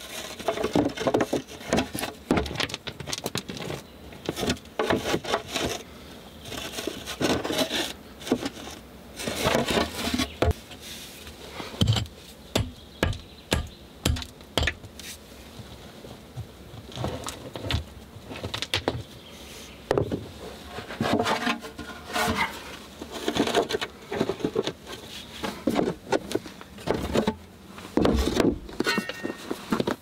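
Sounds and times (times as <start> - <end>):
soil and stones scraping: 0.0 - 12.4, 16.8 - 19.0, 19.6 - 30.0.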